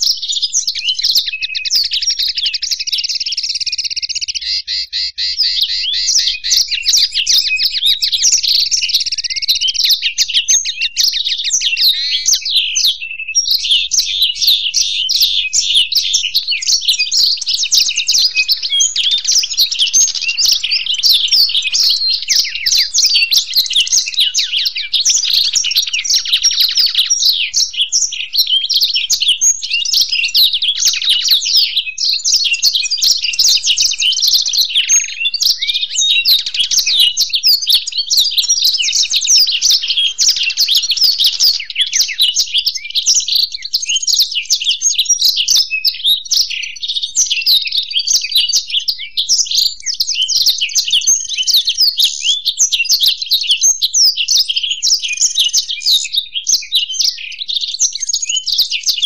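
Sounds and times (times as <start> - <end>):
songbirds twittering and trilling: 0.0 - 59.0.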